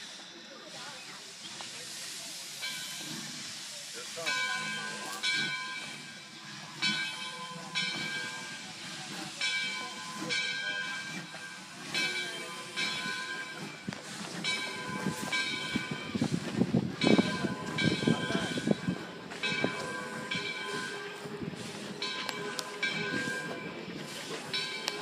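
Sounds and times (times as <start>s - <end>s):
steam hiss: 0.0s - 25.0s
steam locomotive chuffing: 0.0s - 25.0s.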